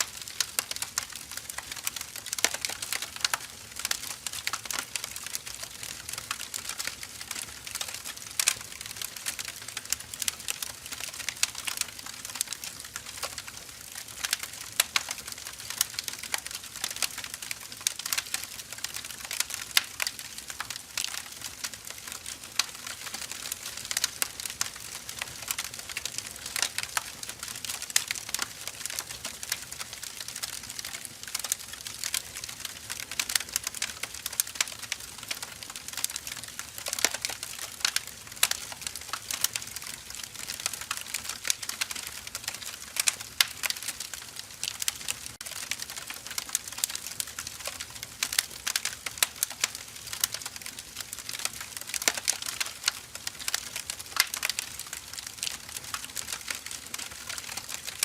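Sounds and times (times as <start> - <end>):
logs burning with crackles: 0.0 - 58.0.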